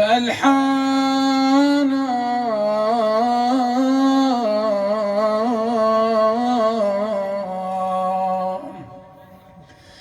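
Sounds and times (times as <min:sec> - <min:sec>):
man chanting: 0:00.0 - 0:09.2.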